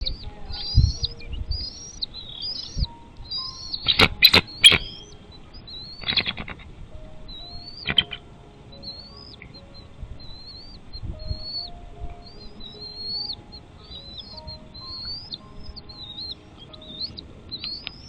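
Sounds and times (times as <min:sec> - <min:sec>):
eagle calling: 0:00.0 - 0:18.0.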